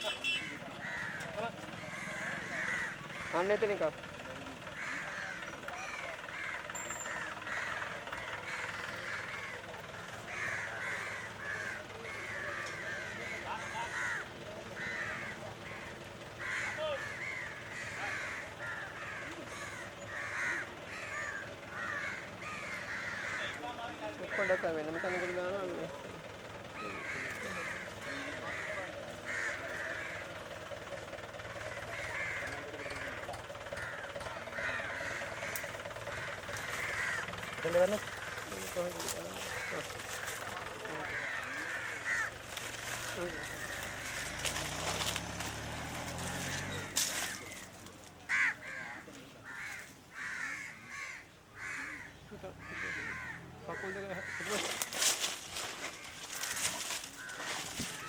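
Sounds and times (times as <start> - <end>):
crows cawing: 0.0 - 58.0.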